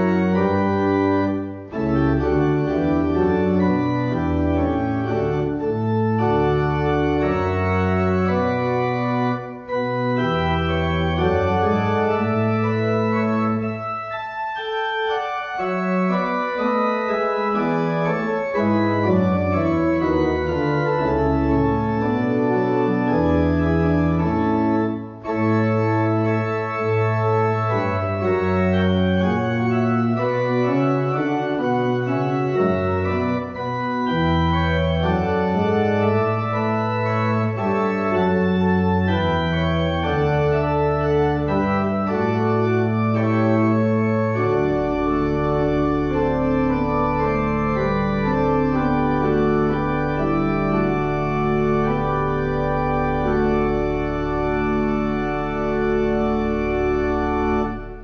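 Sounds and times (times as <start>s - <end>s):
church organ chords: 0.0s - 58.0s
deep organ pedal note: 0.0s - 58.0s.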